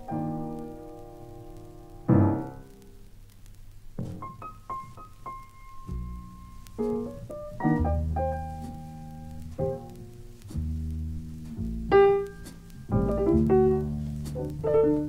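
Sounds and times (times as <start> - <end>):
jazz piano: 0.0 - 15.0.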